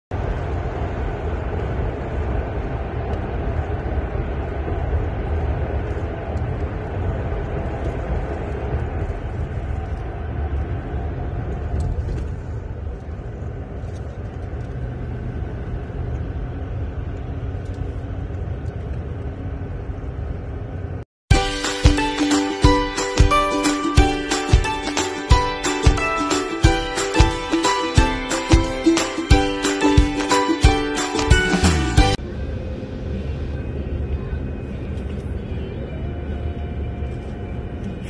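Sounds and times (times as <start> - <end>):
car road and engine noise: 0.1 - 38.0.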